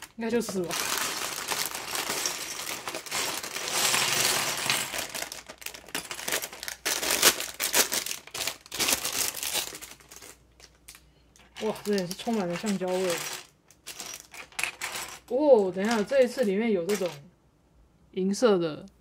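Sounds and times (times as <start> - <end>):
plastic bag crinkling: 0.0 - 17.2
plastic pieces clattering: 0.0 - 17.3.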